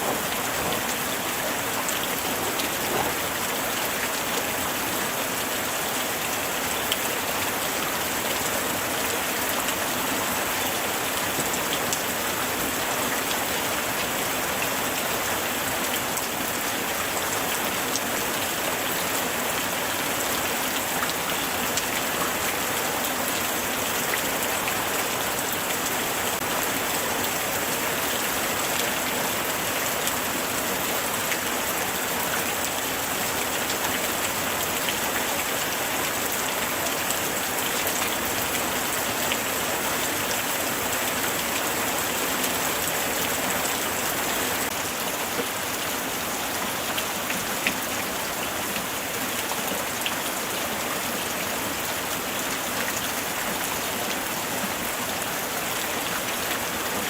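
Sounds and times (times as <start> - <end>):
light rain hissing on surfaces: 0.0 - 57.0.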